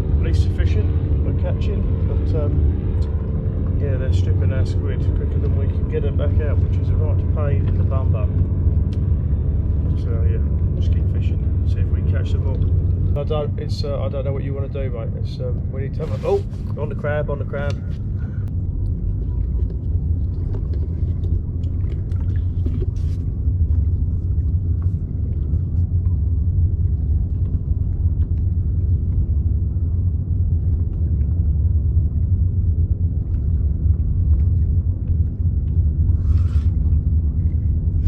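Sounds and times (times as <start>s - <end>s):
faint hum: 0.0s - 38.0s
low steady rumble: 0.0s - 38.0s.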